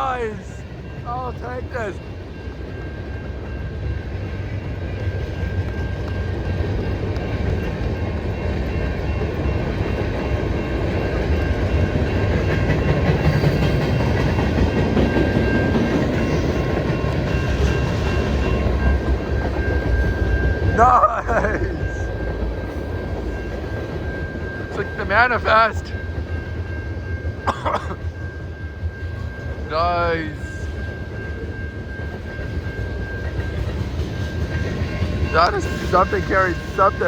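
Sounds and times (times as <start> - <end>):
freight train rumbling on rails: 0.0 - 37.0.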